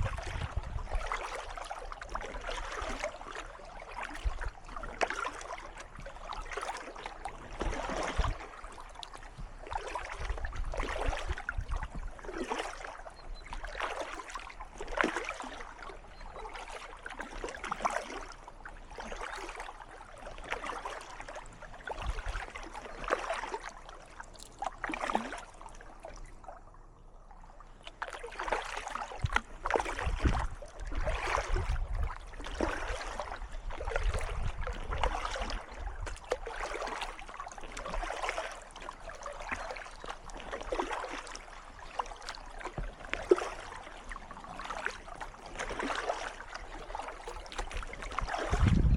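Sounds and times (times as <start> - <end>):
paddle strokes splashing in water: 0.0 - 48.9.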